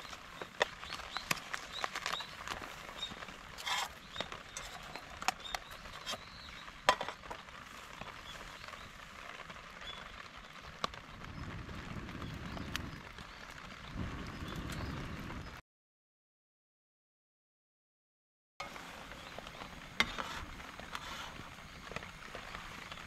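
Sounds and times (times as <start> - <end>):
campfire crackling and popping: 0.0 - 15.6, 18.6 - 23.0
rain hiss: 0.0 - 15.6, 18.6 - 23.0.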